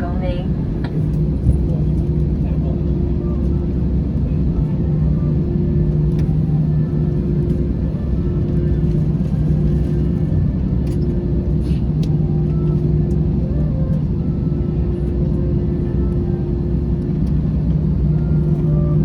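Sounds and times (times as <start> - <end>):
airliner engines droning: 0.0 - 19.0.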